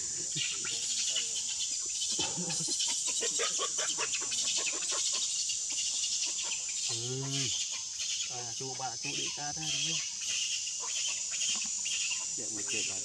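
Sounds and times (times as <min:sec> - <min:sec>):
chickens clucking: 0:00.0 - 0:13.0
high insect drone: 0:00.0 - 0:13.0.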